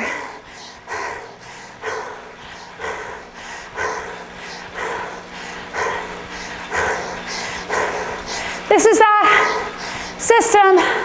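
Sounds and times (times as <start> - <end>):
faint low hum: 0.0 - 11.0
heavy panting breaths: 0.0 - 11.0.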